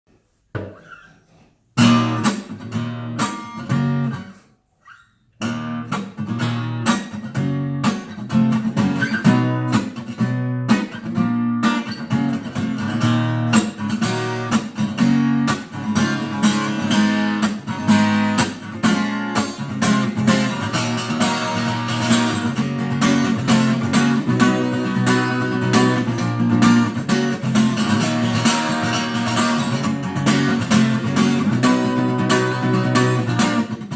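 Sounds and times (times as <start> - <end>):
acoustic guitar strumming: 1.8 - 33.9.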